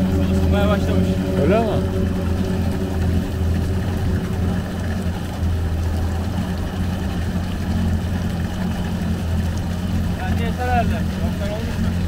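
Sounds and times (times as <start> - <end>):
watercraft engine idling: 0.0 - 12.0.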